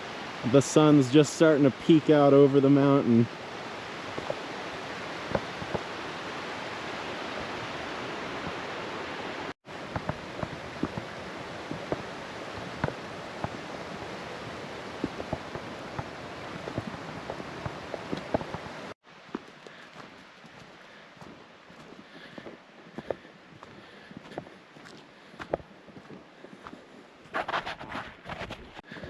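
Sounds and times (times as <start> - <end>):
mountain stream rushing: 0.0 - 26.2.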